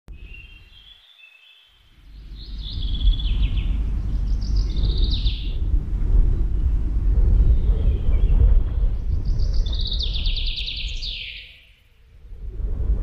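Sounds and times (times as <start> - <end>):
songbirds singing: 0.1 - 12.1
low rushing rumble: 1.9 - 13.0.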